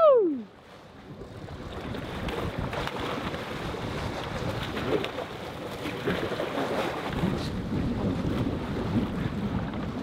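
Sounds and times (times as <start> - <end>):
sea water rushing: 0.0 - 10.0
wind buffeting microphone: 0.8 - 10.0.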